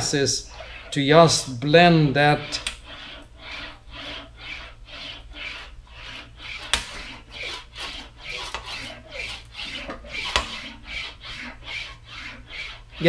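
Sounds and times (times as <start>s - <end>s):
sheet metal swishing through wheels: 0.0s - 13.0s.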